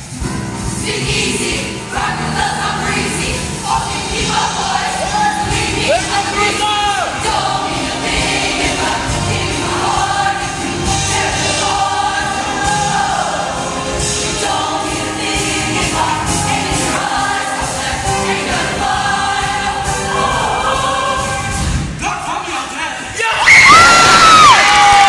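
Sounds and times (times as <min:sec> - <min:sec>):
show choir singing: 0:00.0 - 0:23.1.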